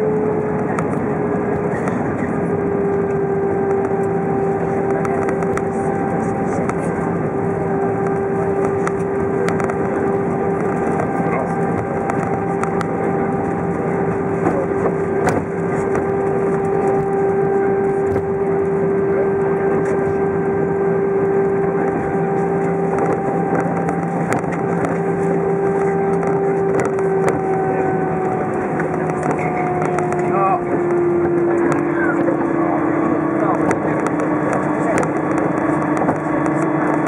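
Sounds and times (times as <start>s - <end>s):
airplane cabin roar: 0.0s - 37.0s.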